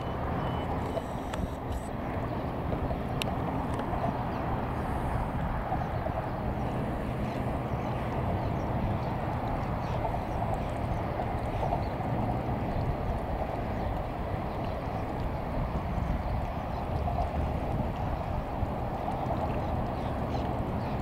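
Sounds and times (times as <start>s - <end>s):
boat diesel engine running: 0.0s - 21.0s.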